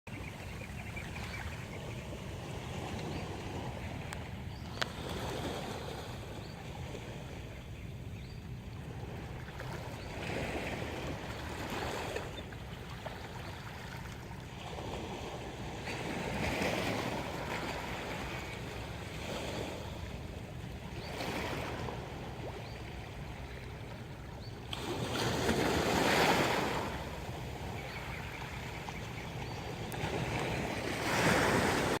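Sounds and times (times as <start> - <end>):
waves breaking on a beach: 0.1 - 7.9, 8.8 - 32.0.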